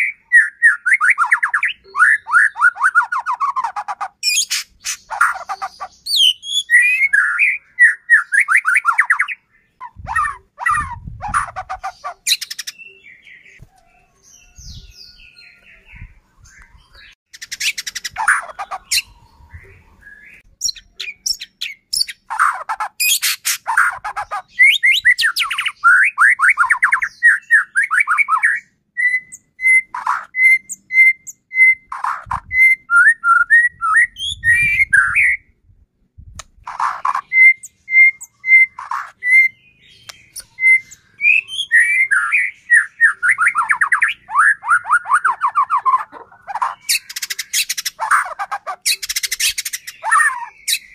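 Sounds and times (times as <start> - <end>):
songbird whistling song: 0.0 - 35.6, 36.6 - 50.9.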